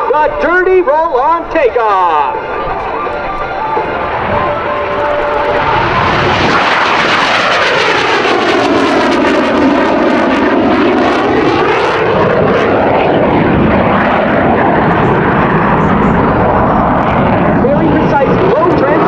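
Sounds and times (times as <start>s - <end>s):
jet roaring past: 0.0s - 19.0s.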